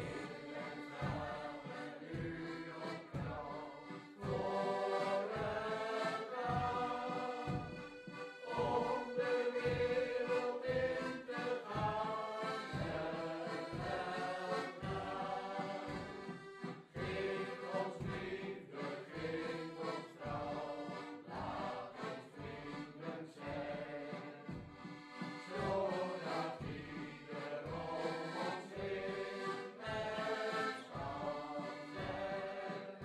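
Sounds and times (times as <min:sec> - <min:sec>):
voices singing together: 0:00.0 - 0:33.0.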